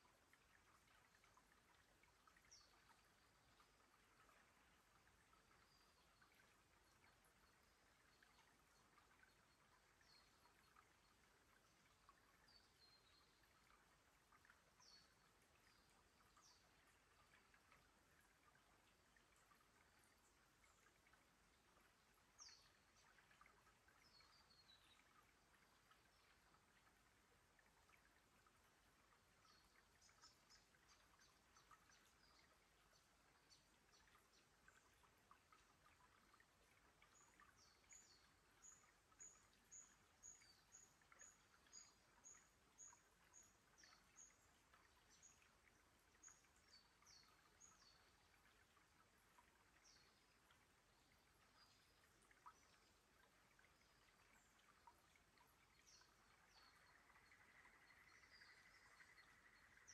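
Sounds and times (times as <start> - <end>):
faint birdsong: 0.0 - 59.9
water trickling among rocks: 0.0 - 59.9.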